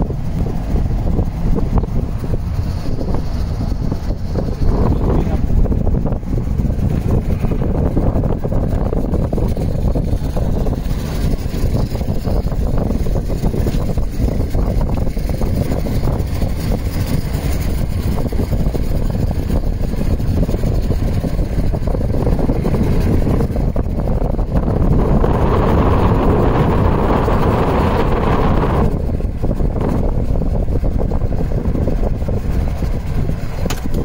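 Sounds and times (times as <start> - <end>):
motorboat engine running: 0.0 - 34.0
wind buffeting microphone: 0.0 - 34.0.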